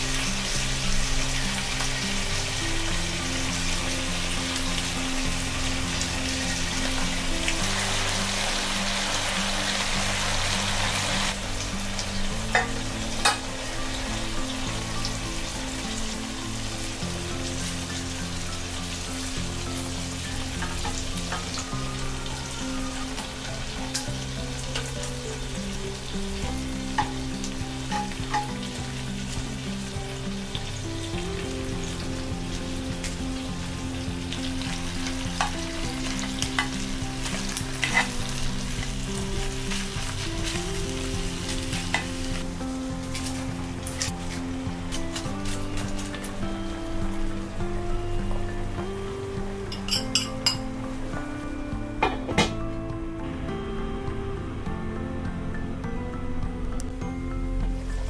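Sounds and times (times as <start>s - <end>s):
meat sizzling in a pot: 0.0s - 55.5s.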